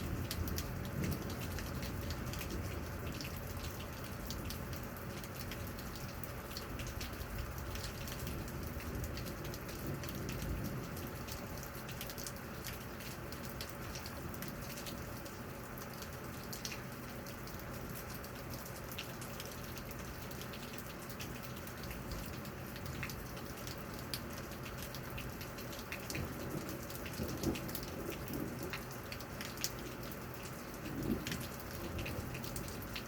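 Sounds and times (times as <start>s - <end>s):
raindrops ticking on a surface: 0.0s - 33.0s
steady rain: 0.0s - 33.0s.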